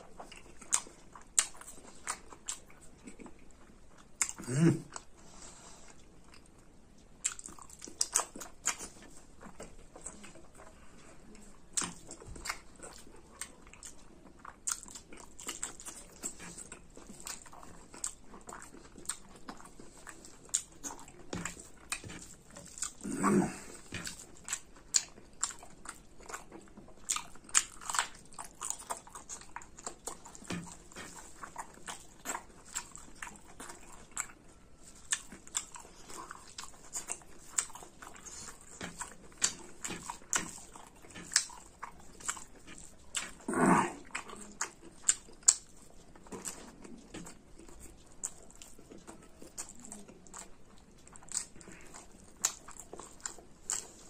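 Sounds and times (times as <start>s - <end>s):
chewing and lip-smacking: 0.0s - 5.2s, 5.8s - 54.0s.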